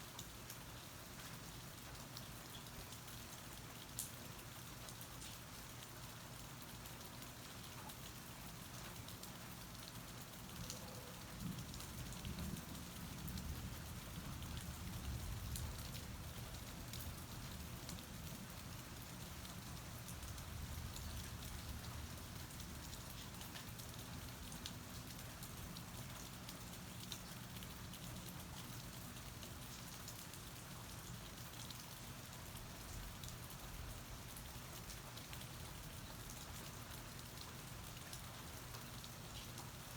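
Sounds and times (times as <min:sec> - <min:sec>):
steady rain falling: 0:00.0 - 0:39.9
raindrop ticks: 0:01.9 - 0:04.2, 0:04.8 - 0:39.8.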